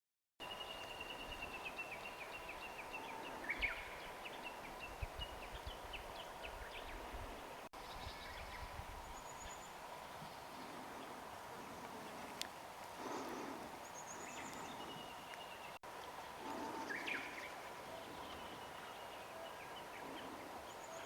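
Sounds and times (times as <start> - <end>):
birds singing: 0.4 - 12.4, 13.0 - 21.0.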